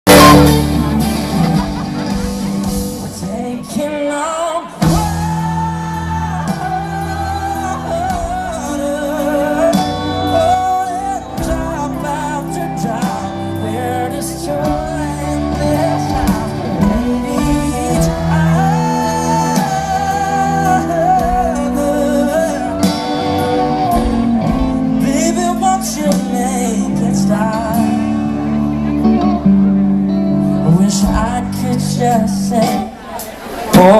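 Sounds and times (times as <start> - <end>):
band playing country-pop: 0.0 - 33.9
guitar: 0.0 - 33.9
man singing lead vocal: 0.1 - 29.5, 30.3 - 33.9.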